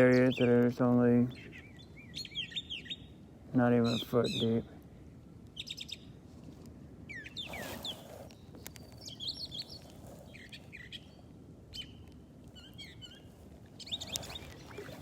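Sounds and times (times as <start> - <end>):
birds chirping: 0.0 - 4.9, 5.5 - 6.2, 7.0 - 15.0
outdoor background noise: 0.0 - 15.0.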